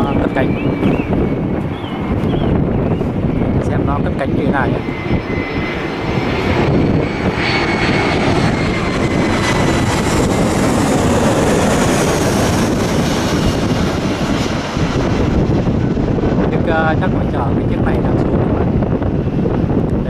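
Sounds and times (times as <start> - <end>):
high engine whine: 0.0 - 20.0
jet engines rumbling: 0.0 - 20.0.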